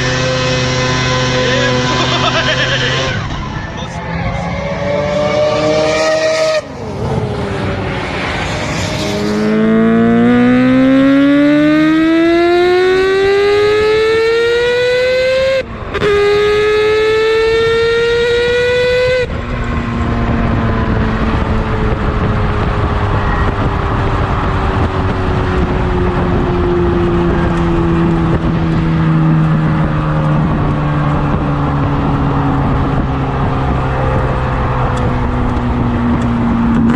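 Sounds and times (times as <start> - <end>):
rotary racing engine accelerating: 0.0 - 36.9.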